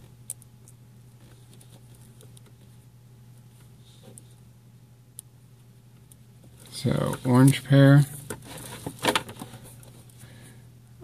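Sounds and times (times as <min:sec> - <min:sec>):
fingers rustling cable wires: 0:00.0 - 0:04.4, 0:05.1 - 0:10.2
steady low hum: 0:00.0 - 0:11.0.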